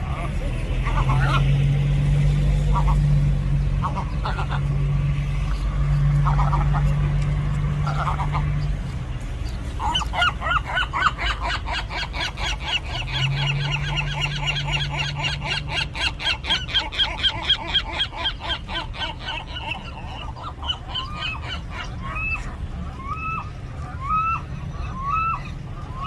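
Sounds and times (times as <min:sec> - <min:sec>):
gulls calling harshly: 0:00.0 - 0:26.0.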